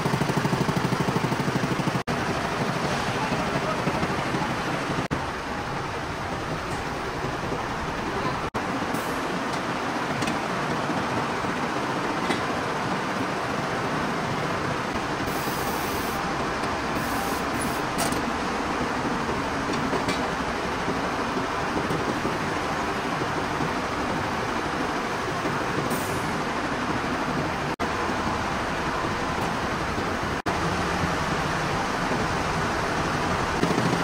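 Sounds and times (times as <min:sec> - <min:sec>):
spinning mill machinery running: 0:00.0 - 0:34.0.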